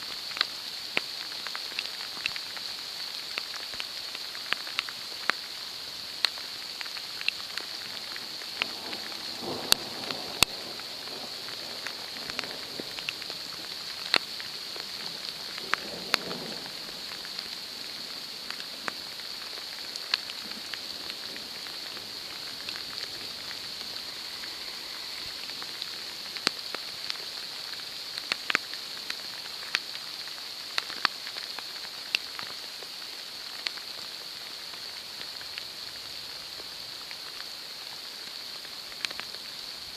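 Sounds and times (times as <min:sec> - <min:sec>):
large raindrops ticking: 0:00.0 - 0:39.9
steady rain hiss: 0:00.0 - 0:39.9.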